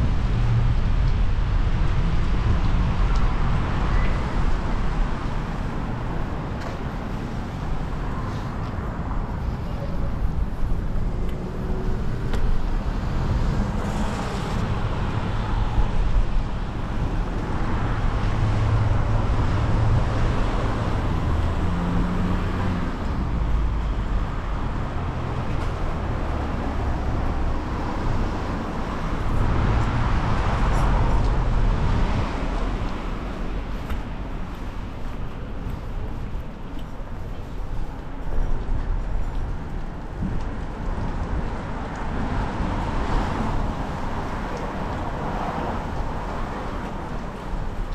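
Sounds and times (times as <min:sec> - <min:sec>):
cars passing with tyre hiss: 0:00.0 - 0:47.9
low traffic rumble: 0:00.0 - 0:47.9.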